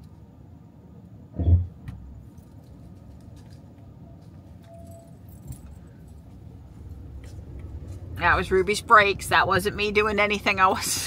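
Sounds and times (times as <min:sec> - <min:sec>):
low steady vehicle hum: 0:00.0 - 0:11.0
brakes squeaking: 0:01.4 - 0:11.0.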